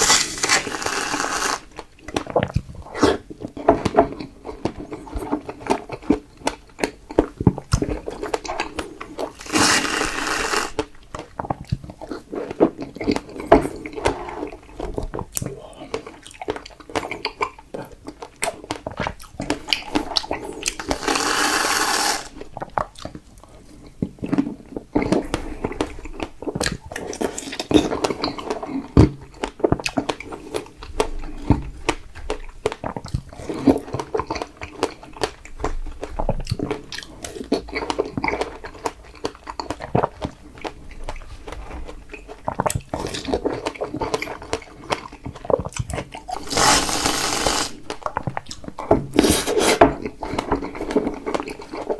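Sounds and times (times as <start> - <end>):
chewing strawberries: 0.0 - 51.9.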